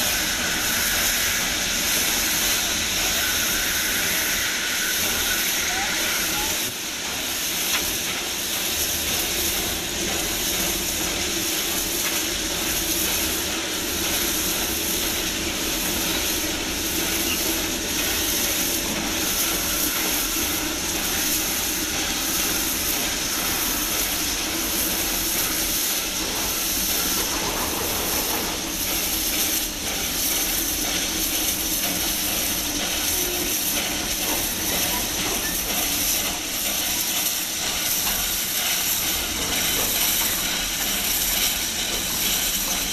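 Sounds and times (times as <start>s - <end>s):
steam hissing: 0.0s - 42.9s
steam locomotive passing: 0.0s - 42.9s.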